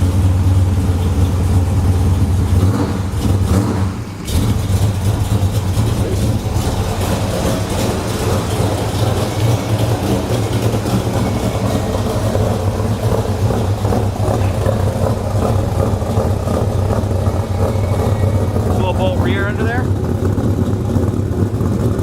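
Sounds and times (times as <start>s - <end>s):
engine idling with deep rumble: 0.0s - 22.0s.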